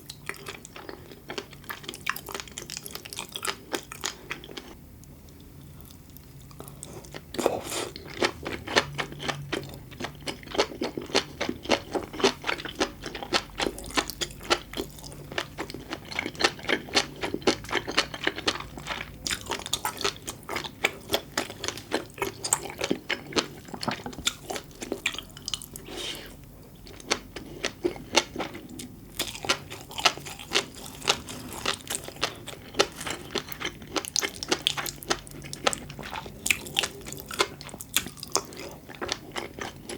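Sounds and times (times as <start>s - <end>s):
chewing popping food: 5.4s - 25.8s, 26.8s - 39.9s.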